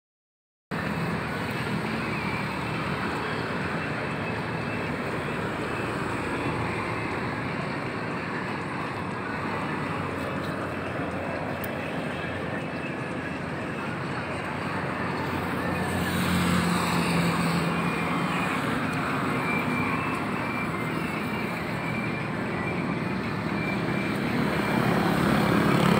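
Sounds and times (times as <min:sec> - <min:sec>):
road traffic noise: 0:00.7 - 0:25.9.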